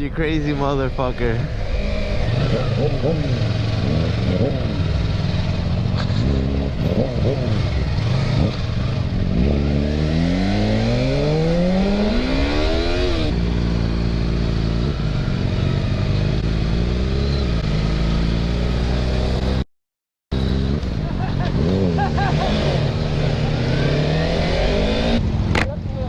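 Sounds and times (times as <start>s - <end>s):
motorcycle engine accelerating: 0.0s - 19.6s, 20.3s - 26.0s.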